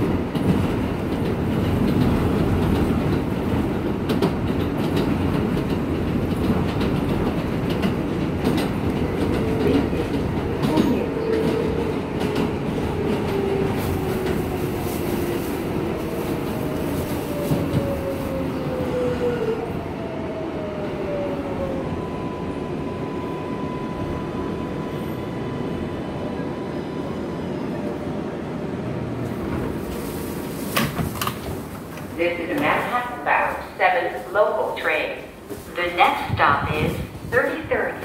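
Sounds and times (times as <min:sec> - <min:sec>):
subway train rumbling on rails: 0:00.0 - 0:38.0.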